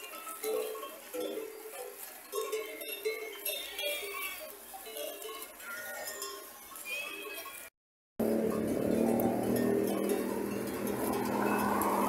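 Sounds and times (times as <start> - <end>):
sheep bells clanking: 0.0 - 12.0.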